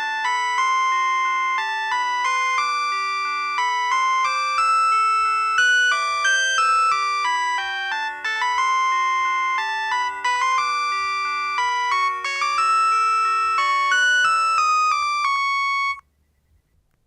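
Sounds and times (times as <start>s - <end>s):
polyphonic phone ringtone: 0.0s - 16.0s.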